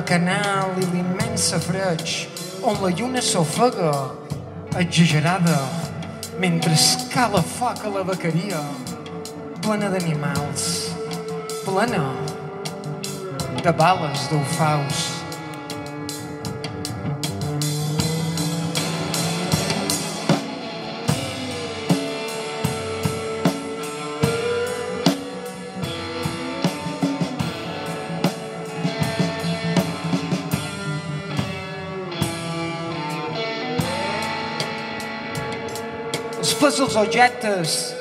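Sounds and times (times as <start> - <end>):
drum kit steady beat: 0.0 - 33.2, 33.8 - 38.0
electric guitar sliding notes: 0.0 - 38.0.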